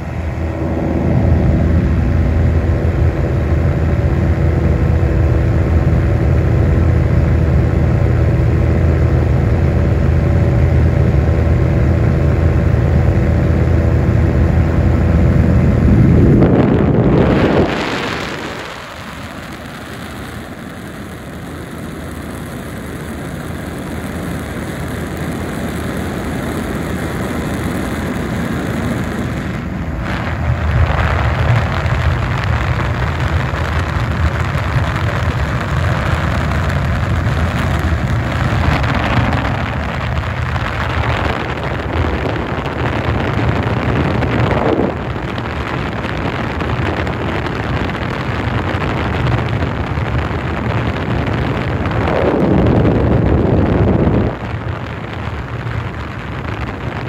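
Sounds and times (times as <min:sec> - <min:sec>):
propane burner roaring: 0:00.0 - 0:57.0.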